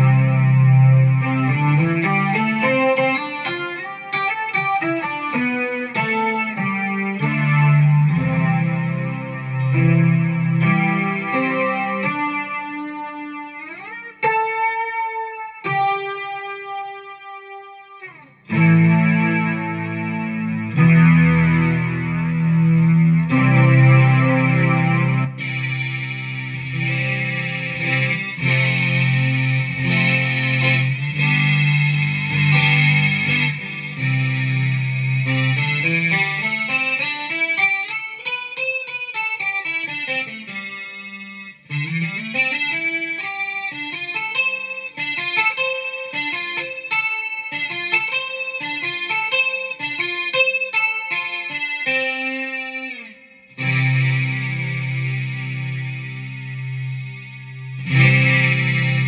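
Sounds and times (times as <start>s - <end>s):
synth guitar chords and notes: 0.0s - 59.0s.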